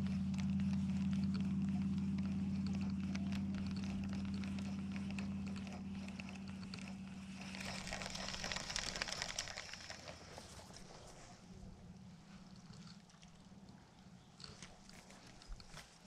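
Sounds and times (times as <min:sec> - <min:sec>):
distant boat engine hum: 0:00.0 - 0:16.0.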